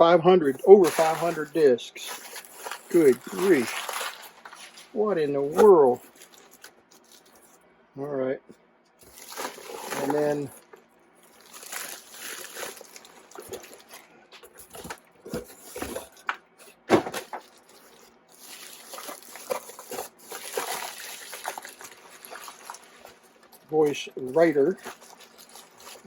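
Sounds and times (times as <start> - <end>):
rustling and scraping: 0.4 - 7.6, 9.0 - 26.0.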